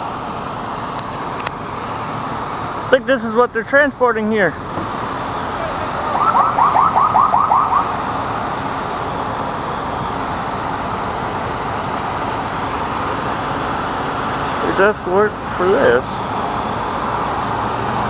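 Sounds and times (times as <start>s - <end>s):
trucks passing: 0.0s - 18.0s
rapid electronic chirps: 0.1s - 8.4s, 9.0s - 17.6s.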